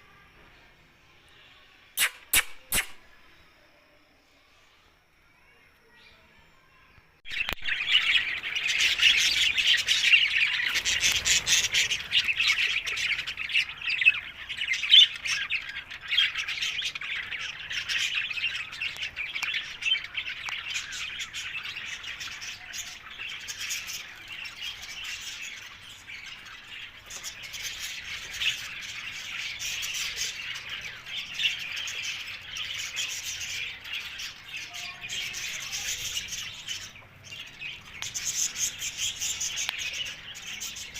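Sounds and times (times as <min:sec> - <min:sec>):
parrots squawking and chattering: 0:01.9 - 0:03.2, 0:07.3 - 0:40.9.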